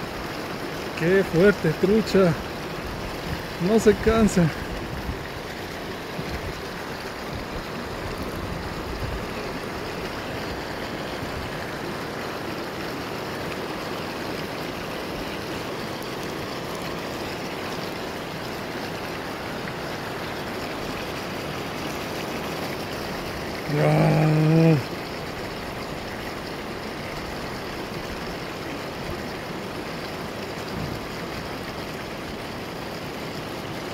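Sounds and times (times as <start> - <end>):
river water rushing over stones: 0.0 - 33.9.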